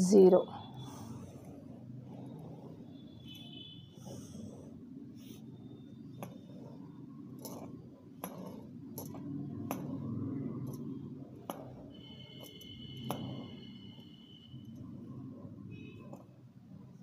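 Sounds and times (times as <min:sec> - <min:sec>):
marker pen drawing on paper: 0:00.4 - 0:17.0.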